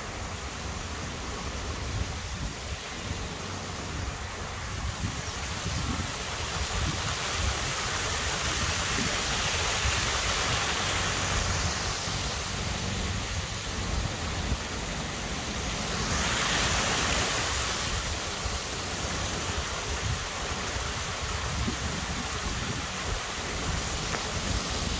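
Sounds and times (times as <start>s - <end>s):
stream pouring over a weir: 0.0s - 24.9s
wind on microphone: 0.1s - 24.9s.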